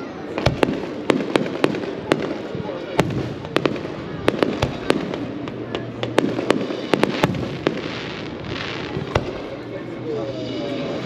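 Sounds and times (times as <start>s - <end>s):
fireworks bangs and pops: 0.3s - 9.6s
firework hiss: 0.5s - 9.6s.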